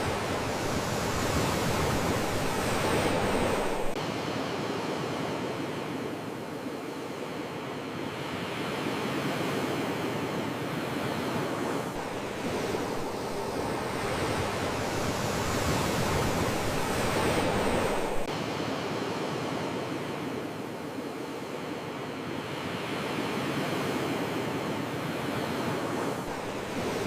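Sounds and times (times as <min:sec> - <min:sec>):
sea waves washing ashore: 0:00.0 - 0:27.0
wind: 0:00.0 - 0:27.0.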